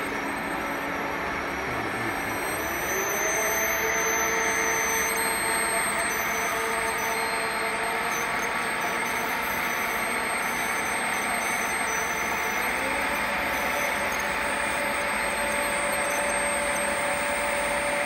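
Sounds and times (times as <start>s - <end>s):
milling machine running: 0.0s - 18.0s.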